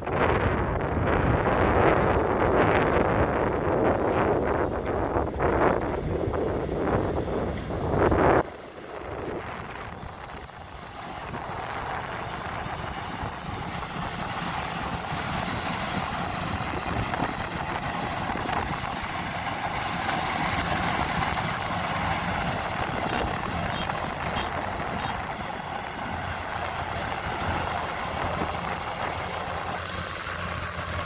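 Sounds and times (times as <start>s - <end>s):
combine harvester running: 0.0s - 31.0s
wind buffeting microphone: 0.0s - 31.0s.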